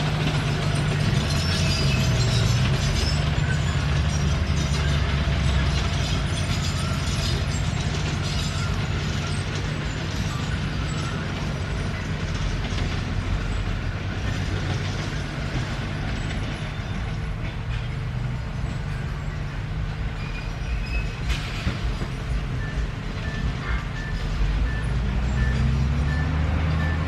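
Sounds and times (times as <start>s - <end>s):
bulldozer diesel engine running: 0.0s - 27.0s
steel tracks clattering: 0.0s - 27.0s.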